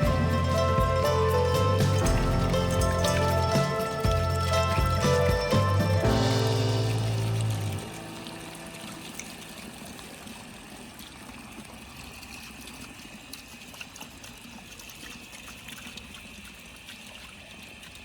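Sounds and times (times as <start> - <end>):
small splashes: 0.0 - 18.0
water trickling and pouring: 0.0 - 18.0.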